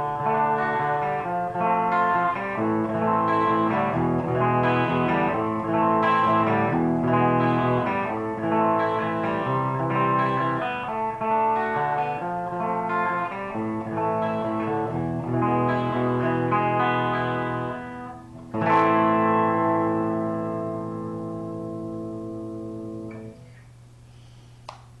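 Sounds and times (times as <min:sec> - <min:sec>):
electric guitar chords and notes: 0:00.0 - 0:23.8.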